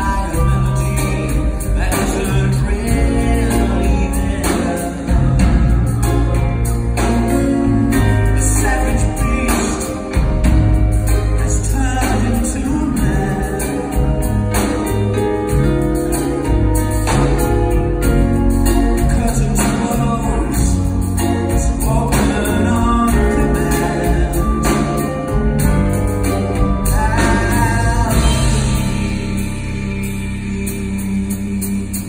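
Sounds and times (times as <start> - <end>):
live band playing: 0.0 - 32.0.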